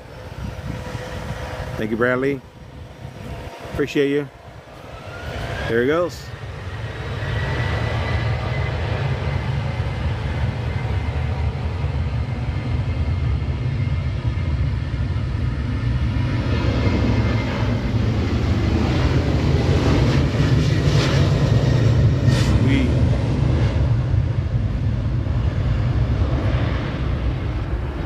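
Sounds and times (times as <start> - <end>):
jet engines low rumble: 0.0 - 28.0.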